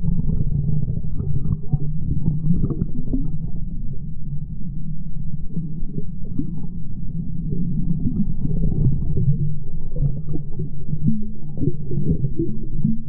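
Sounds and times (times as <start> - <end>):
underwater rumble of moving water: 0.0 - 13.0.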